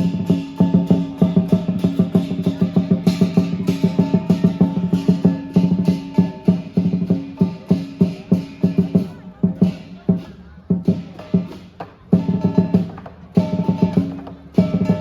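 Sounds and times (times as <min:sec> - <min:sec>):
big drum beating fast: 0:00.0 - 0:15.0
cymbals clashing: 0:00.0 - 0:15.0.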